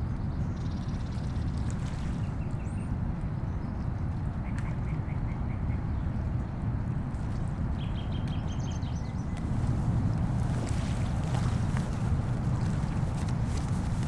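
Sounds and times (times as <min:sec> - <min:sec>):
fast river water: 0:00.0 - 0:14.0
wind: 0:00.0 - 0:14.0.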